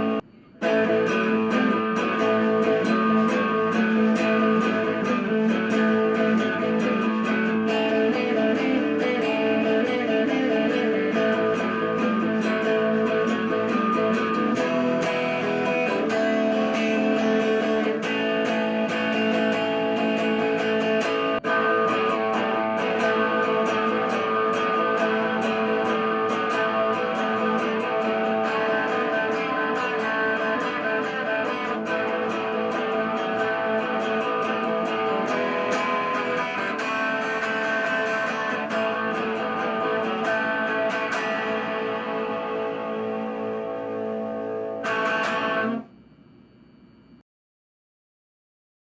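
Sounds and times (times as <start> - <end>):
electric guitar playing: 0.0 - 45.8.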